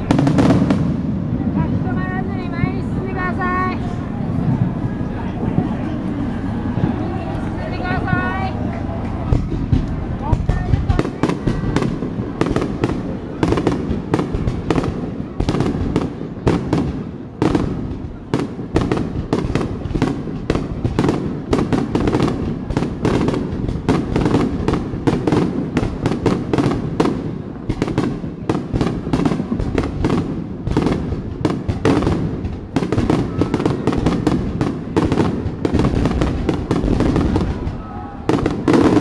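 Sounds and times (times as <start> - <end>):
fireworks booming and crackling: 0.0 - 39.0.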